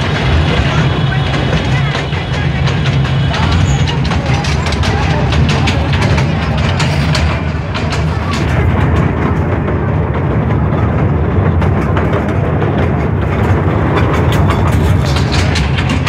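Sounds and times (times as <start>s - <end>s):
ride-on train rumbling: 0.0s - 16.0s.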